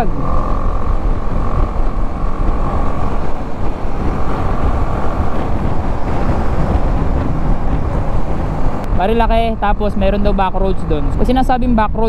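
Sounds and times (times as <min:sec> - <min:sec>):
motorcycle engine: 0:00.0 - 0:11.8
wind buffeting microphone: 0:00.0 - 0:12.0.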